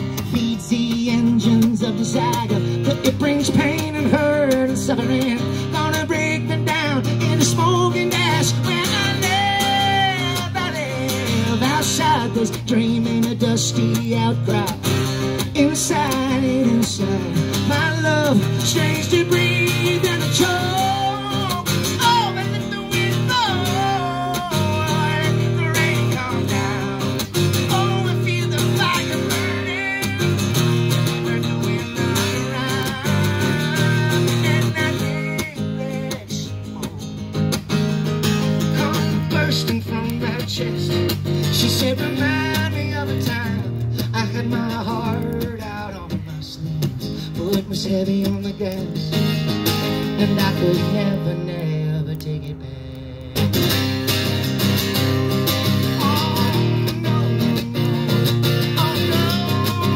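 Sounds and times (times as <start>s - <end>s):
man singing: 0.0s - 37.2s, 38.4s - 59.9s
acoustic guitar strummed and picked: 0.0s - 59.9s.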